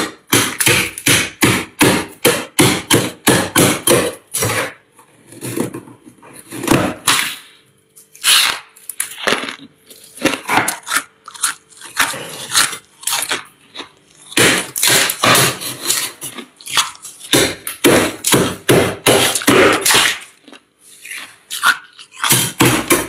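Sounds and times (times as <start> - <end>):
freezer frost being scraped: 2.6 - 23.0.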